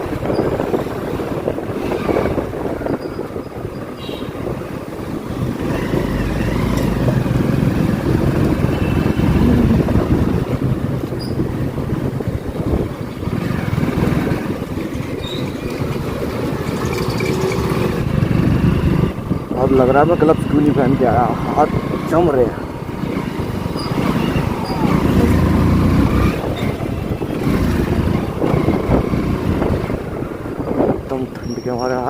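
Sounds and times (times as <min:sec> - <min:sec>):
road noise: 0:00.0 - 0:32.0
wind rushing over microphone: 0:00.0 - 0:32.0
motorcycle engine running: 0:05.0 - 0:30.8.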